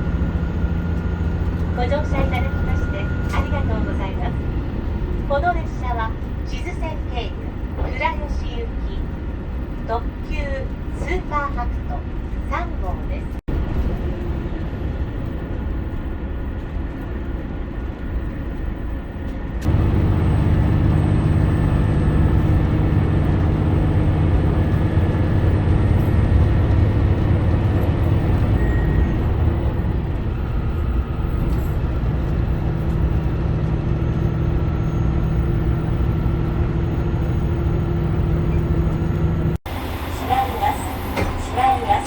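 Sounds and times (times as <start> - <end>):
diesel railcar engine drone: 0.0 - 42.0.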